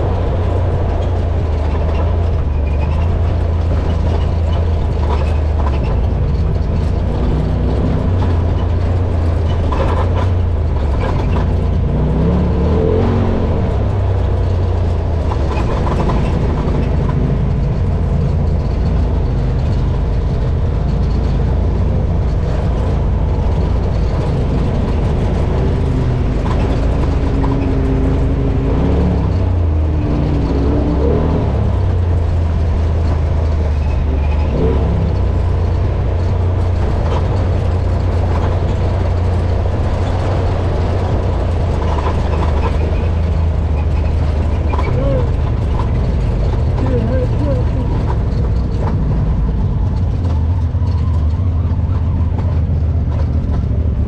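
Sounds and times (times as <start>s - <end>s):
heavy engine rumble: 0.0s - 54.0s.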